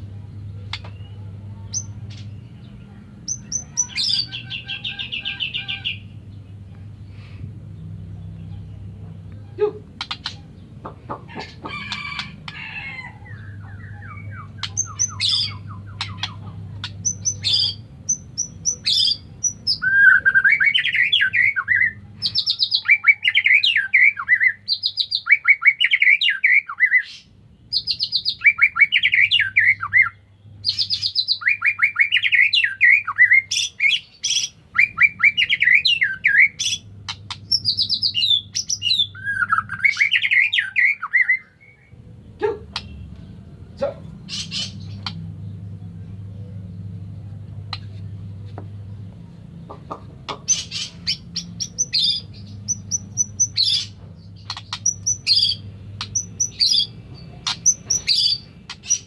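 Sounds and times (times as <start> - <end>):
bird singing trilled phrases: 0.6 - 6.6, 7.8 - 46.0, 50.4 - 59.0.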